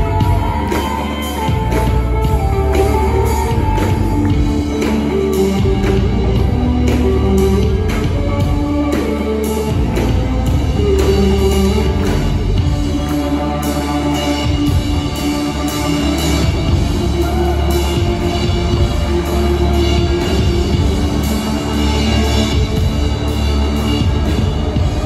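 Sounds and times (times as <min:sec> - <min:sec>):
drum kit beat: 0:00.0 - 0:25.0.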